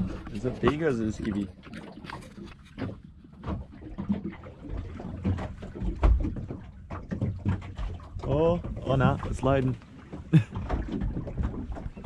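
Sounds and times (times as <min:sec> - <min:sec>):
low rumbling on boat: 0:00.0 - 0:12.0.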